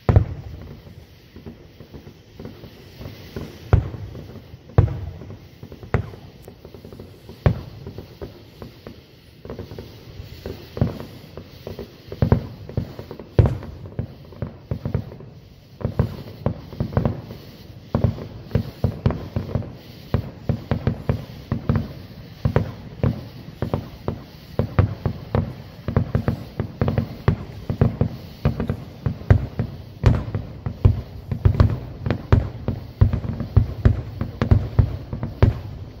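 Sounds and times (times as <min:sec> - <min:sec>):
fireworks shells bursting: 0:00.0 - 0:36.0
sharp firework crack: 0:00.0 - 0:36.0.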